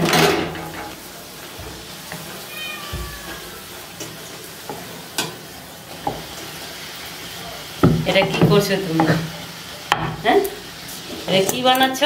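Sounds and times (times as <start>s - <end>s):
bread frying in hot oil: 0.0s - 12.0s.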